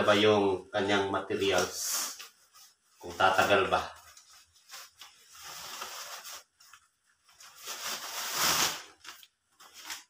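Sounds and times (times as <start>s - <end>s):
fabric bag rustling: 1.6s - 10.0s.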